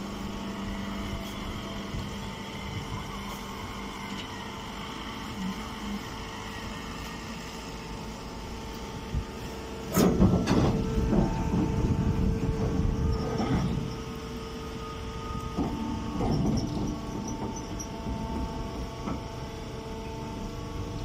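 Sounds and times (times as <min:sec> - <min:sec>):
baler electric hum: 0:00.0 - 0:21.0.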